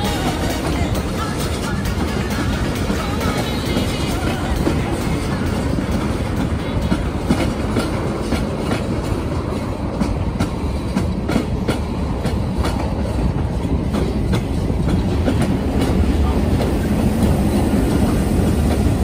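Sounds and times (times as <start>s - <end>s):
low train rumble: 0.0s - 19.0s
wheels clicking over rail joints: 0.0s - 19.0s.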